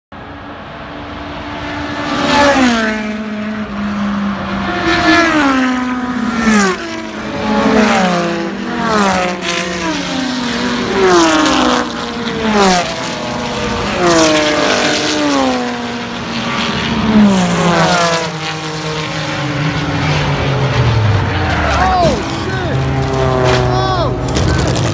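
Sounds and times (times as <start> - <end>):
race cars passing at speed: 0.2 - 24.9.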